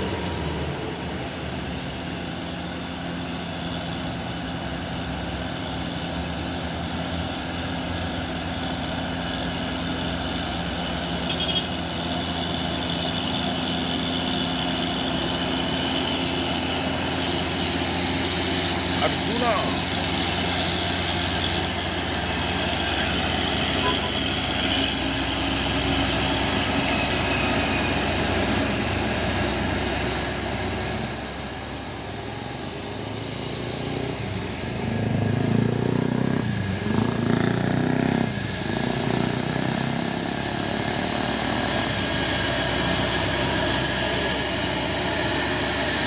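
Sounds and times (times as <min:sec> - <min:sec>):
diesel truck engine running: 0:00.0 - 0:46.0
high whine: 0:07.2 - 0:46.0.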